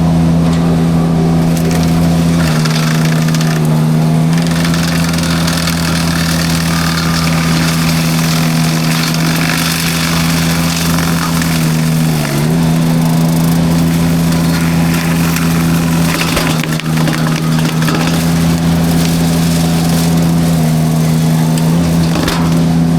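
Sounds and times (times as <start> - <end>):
mulcher machine hum: 0.0 - 22.9
hiss of spinning drum: 1.5 - 22.9.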